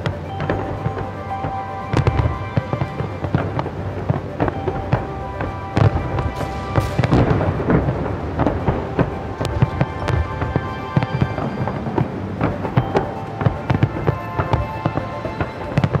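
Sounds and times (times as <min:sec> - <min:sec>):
fireworks bursting and crackling: 0:00.0 - 0:16.0
music: 0:00.0 - 0:16.0.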